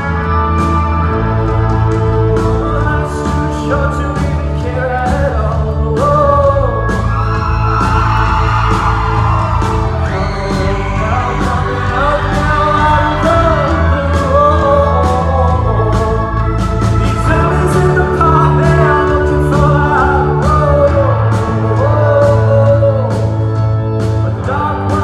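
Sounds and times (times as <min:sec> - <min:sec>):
live rock band: 0:00.0 - 0:25.0
male lead singer: 0:00.0 - 0:25.0
steady drum beat: 0:00.0 - 0:25.0.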